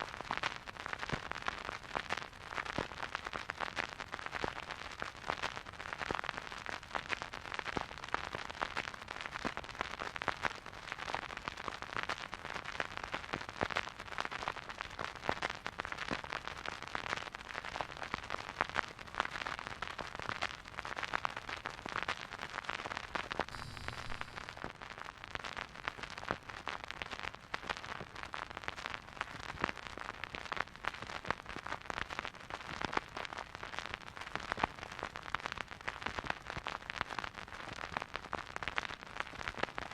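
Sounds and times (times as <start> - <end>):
record hiss: 0.0 - 36.3
vinyl crackles and pops: 0.0 - 39.9.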